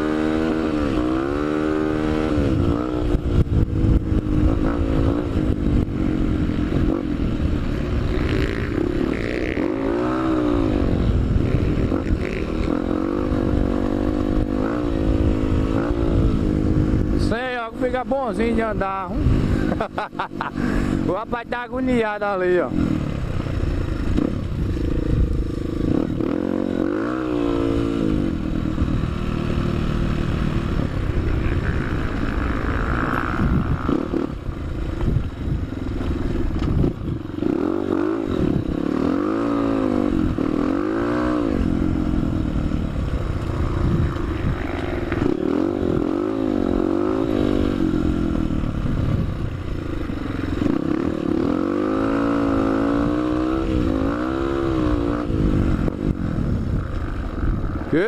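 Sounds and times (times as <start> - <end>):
motorbike engine accelerating: 0.0 - 58.0.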